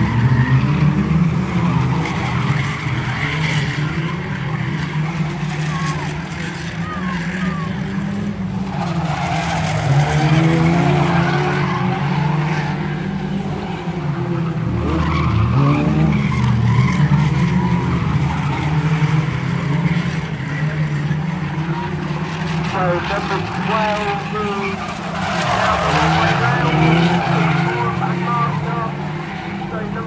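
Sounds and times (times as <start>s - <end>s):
race car engines revving: 0.0s - 30.0s
tyres skidding: 0.0s - 30.0s.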